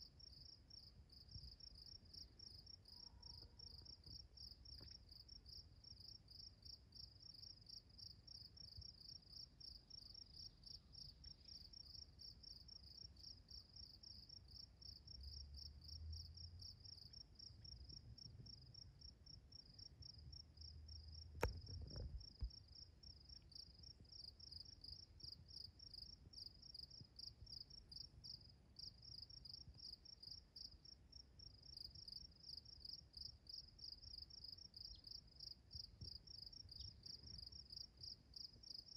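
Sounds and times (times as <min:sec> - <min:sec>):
insect chirping trill: 0:00.0 - 0:38.9.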